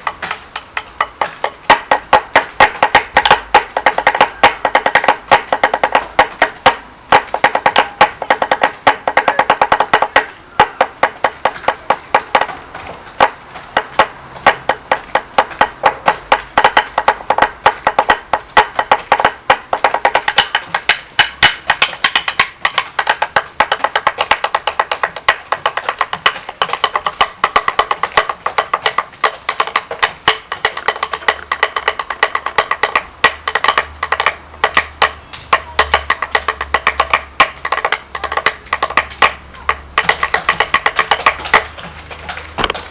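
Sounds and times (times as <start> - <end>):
drumming on wood blocks: 0.0 - 42.9.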